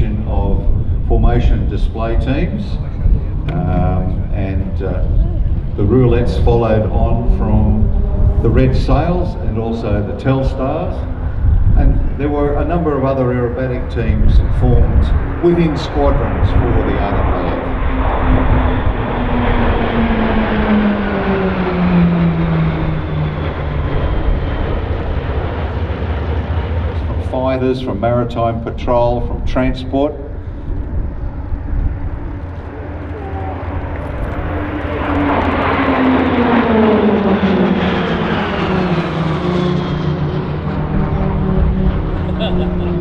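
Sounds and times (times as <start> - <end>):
propeller planes flying past: 0.0 - 43.0.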